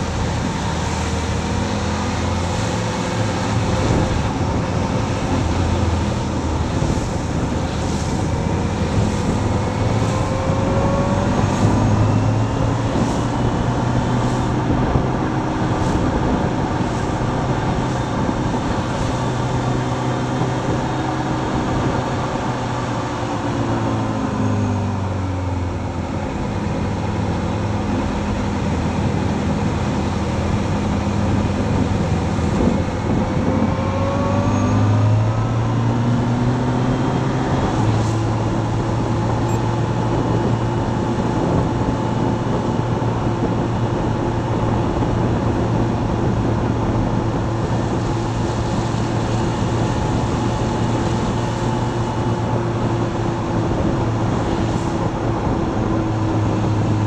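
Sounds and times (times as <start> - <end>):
motorcycle engine accelerating: 0.0 - 57.0
wind noise: 0.0 - 57.0.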